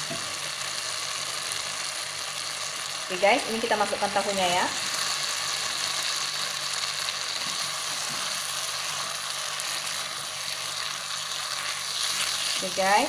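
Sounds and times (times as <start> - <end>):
tofu sizzling in a wok: 0.0 - 13.0.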